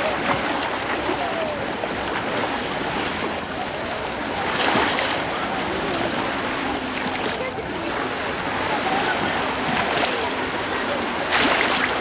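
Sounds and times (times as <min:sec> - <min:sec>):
small waves washing ashore: 0:00.0 - 0:12.0.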